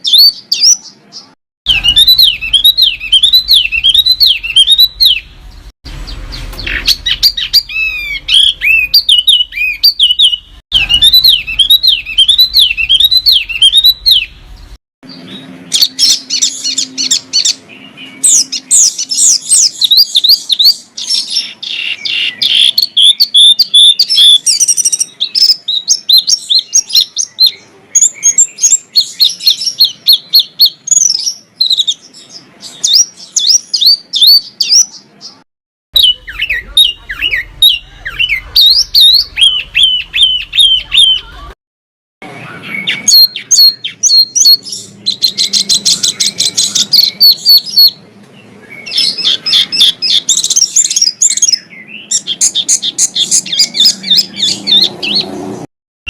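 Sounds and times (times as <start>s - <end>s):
rapid high bird chirps and trills: 0.0s - 35.4s, 36.0s - 41.6s, 42.2s - 55.7s.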